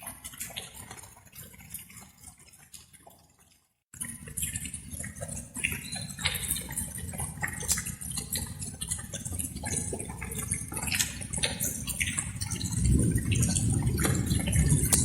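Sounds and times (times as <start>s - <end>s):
raindrops splashing and plinking: 0.0s - 15.0s.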